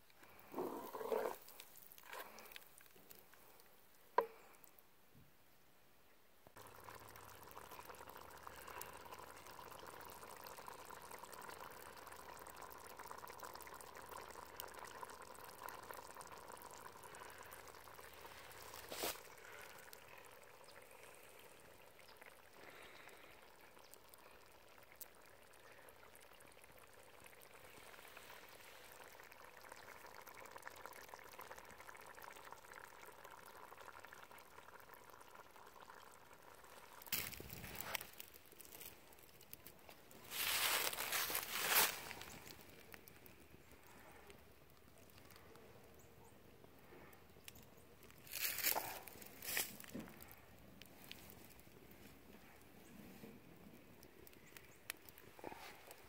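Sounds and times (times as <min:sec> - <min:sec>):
stew bubbling with tiny pops: 0:00.0 - 0:04.9, 0:06.4 - 0:56.0.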